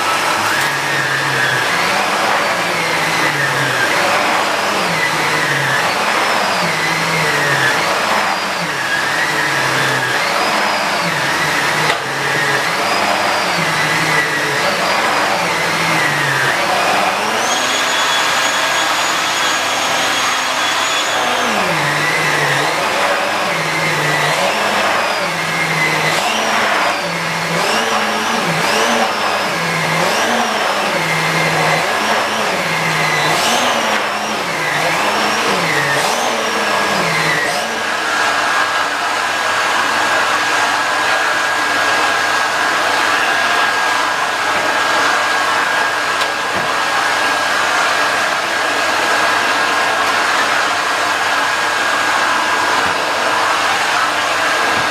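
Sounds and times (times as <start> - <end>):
vacuum cleaner on rug: 0.0 - 54.9.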